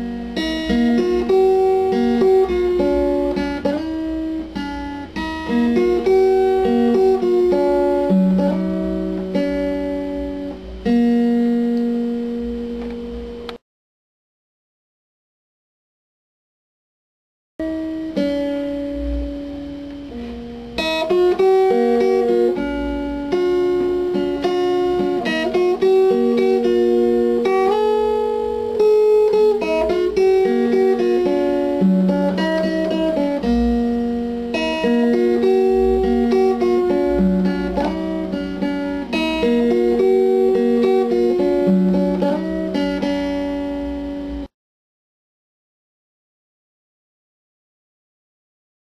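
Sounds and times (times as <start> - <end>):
plucked guitar melody: 0.0 - 13.6, 17.6 - 44.5.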